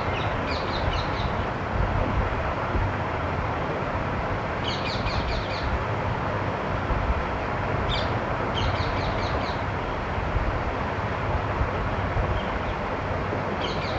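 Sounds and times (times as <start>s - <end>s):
steady rushing noise: 0.0s - 13.9s.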